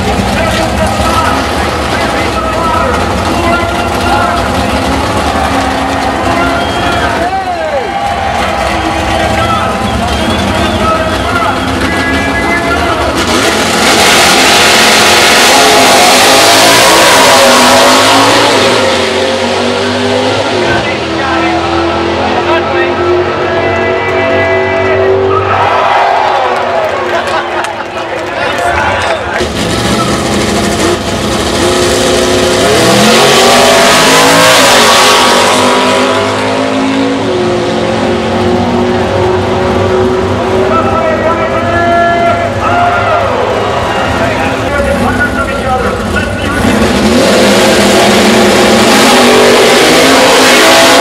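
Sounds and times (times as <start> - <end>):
race car engines accelerating: 0.0 - 51.0.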